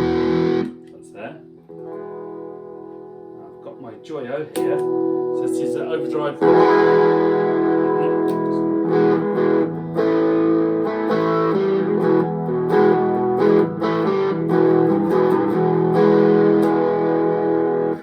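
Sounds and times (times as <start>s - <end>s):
overdriven electric guitar chords: 0.0s - 18.0s.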